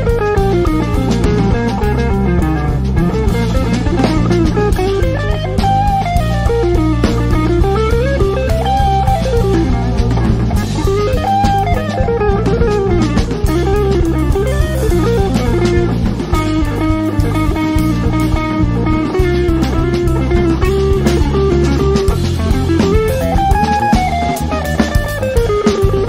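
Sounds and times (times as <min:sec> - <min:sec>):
bass: 0:00.0 - 0:26.0
drums: 0:00.0 - 0:26.0
electric guitar melody: 0:00.0 - 0:26.0.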